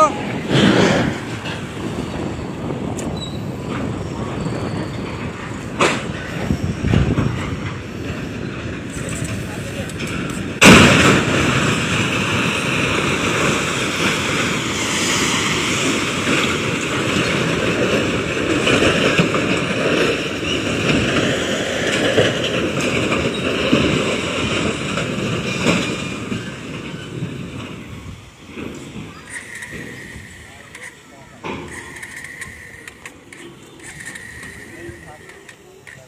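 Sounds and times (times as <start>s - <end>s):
train running past: 0.0s - 36.0s.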